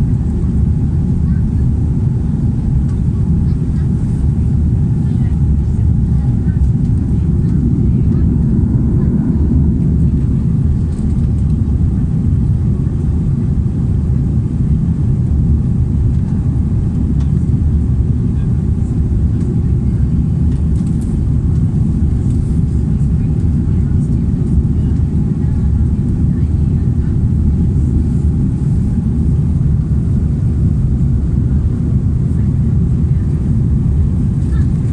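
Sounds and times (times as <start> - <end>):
airplane cabin engine rumble: 0.0 - 34.9.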